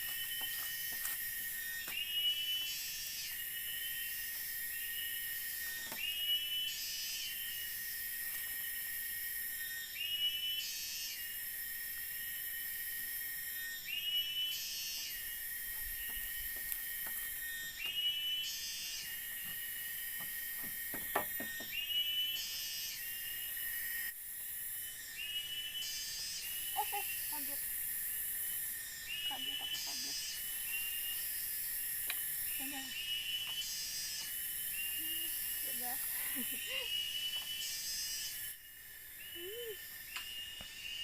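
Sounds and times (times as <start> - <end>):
high insect drone: 0.0 - 41.0.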